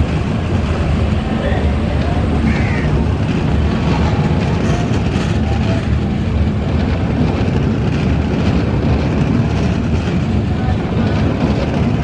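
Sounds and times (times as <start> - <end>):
diesel train low rumble: 0.0 - 12.0.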